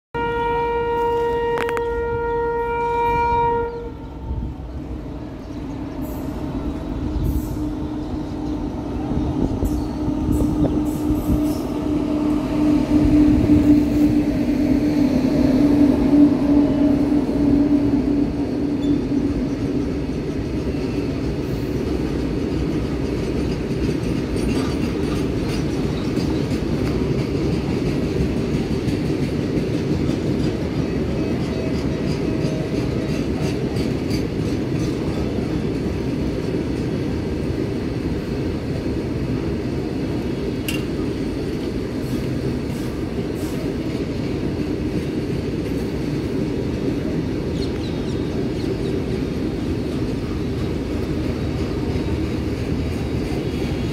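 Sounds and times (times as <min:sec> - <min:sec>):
freight wagons rumbling on rails: 0:00.2 - 0:53.9.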